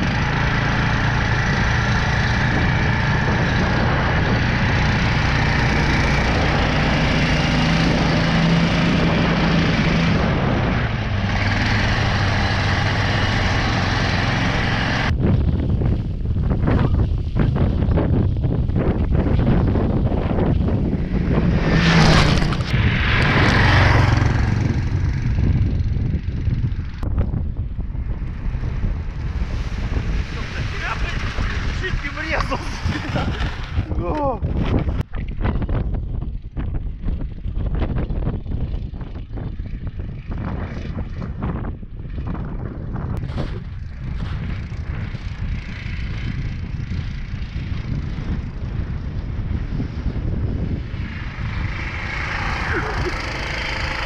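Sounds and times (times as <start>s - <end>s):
snow vehicle engine running: 0.0s - 54.0s
wind buffeting microphone: 0.0s - 54.0s.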